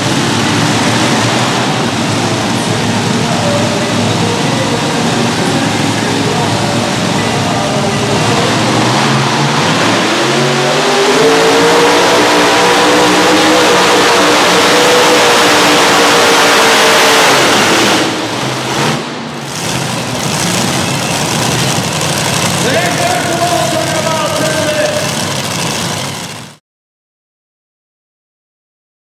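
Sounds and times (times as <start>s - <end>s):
racing engines at full throttle: 0.0s - 26.6s.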